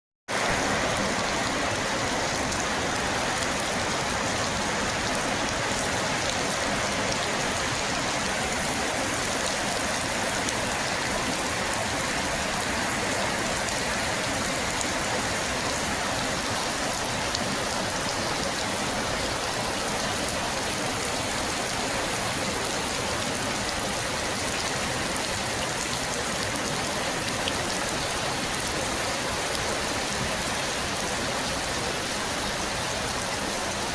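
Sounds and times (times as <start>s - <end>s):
rain falling: 0.3s - 33.9s.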